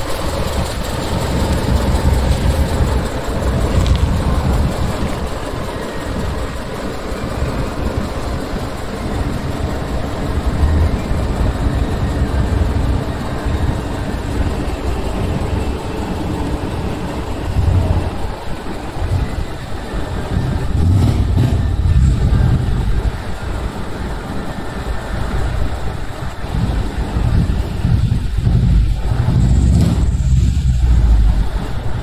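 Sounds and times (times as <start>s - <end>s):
truck diesel engines rumbling: 0.0s - 32.0s.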